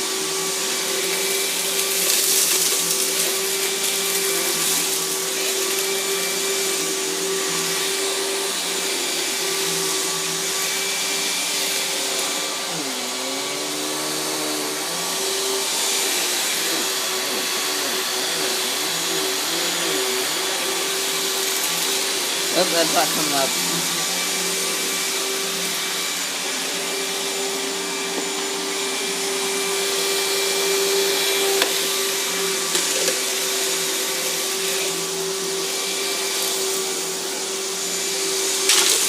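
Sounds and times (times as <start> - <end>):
vacuum cleaner running on carpet: 0.0 - 39.0.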